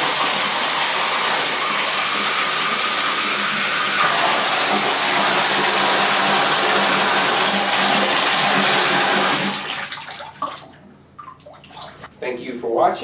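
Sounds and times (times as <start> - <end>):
water running into bathtub: 0.0 - 12.1.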